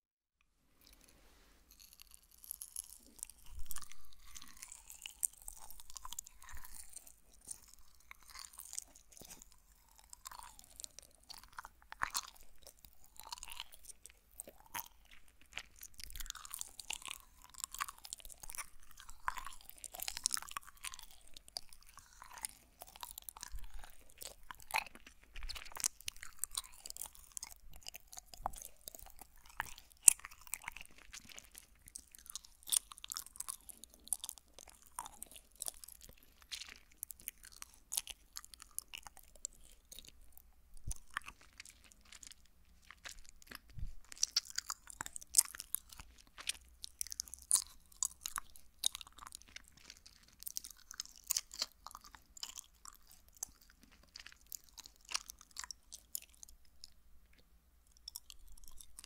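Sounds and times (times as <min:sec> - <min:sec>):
chewing candy close to microphone: 0:00.7 - 0:59.0.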